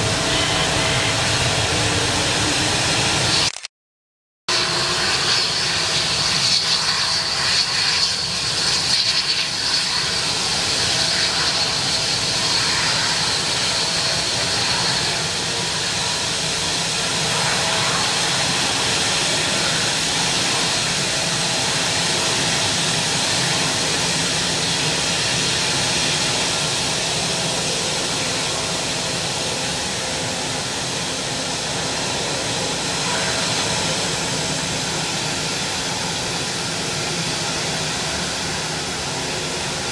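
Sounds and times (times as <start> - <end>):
jet engines running: 0.0 - 3.5, 4.5 - 39.9.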